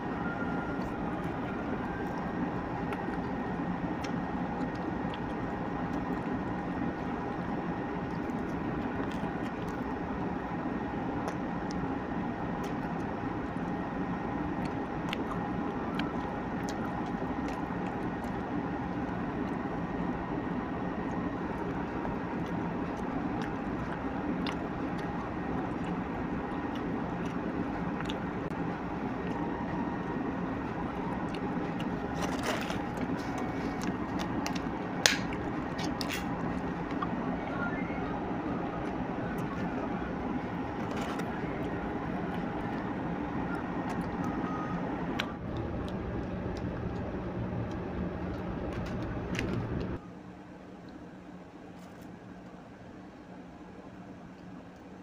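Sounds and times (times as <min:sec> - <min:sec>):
machine hum with high tones: 0:00.0 - 0:55.0.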